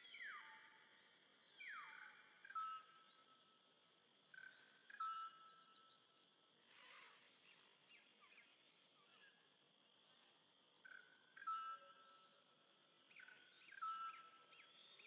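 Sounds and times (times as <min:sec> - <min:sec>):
soft outdoor hiss: 0:00.0 - 0:15.0.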